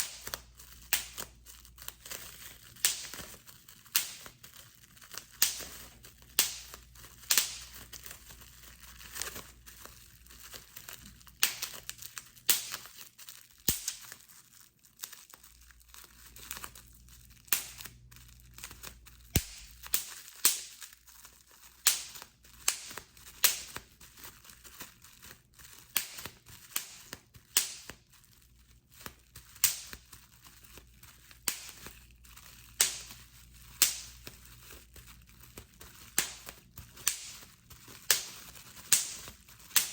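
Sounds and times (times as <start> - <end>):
bubble wrap popping: 0.0 - 39.9
plastic crinkling: 0.0 - 39.9.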